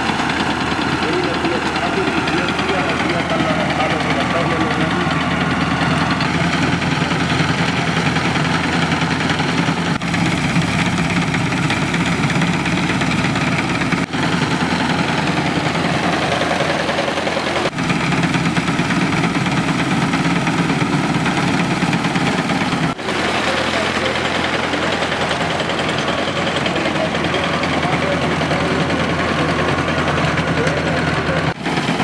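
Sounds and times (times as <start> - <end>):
tractor engine driving thresher: 0.0 - 32.0.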